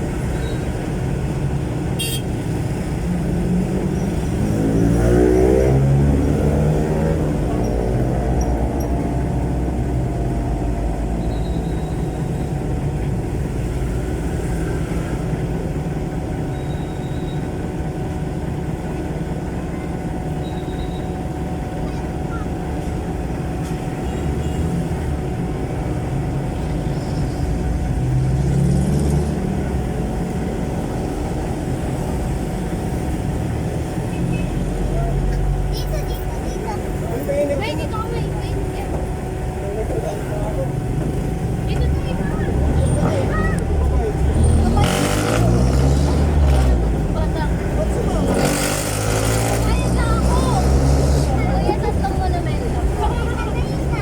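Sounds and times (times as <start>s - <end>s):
diesel engine rumbling loud exhaust: 0.0s - 54.0s.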